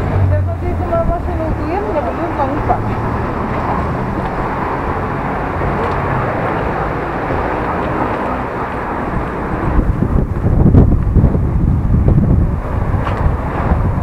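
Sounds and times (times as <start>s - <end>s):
city street noise: 0.0s - 14.0s
wind buffeting microphone: 0.0s - 14.0s.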